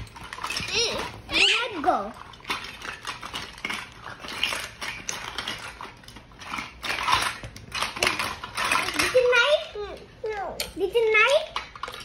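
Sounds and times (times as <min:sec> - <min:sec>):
toy dishes clattering: 0:00.0 - 0:12.0.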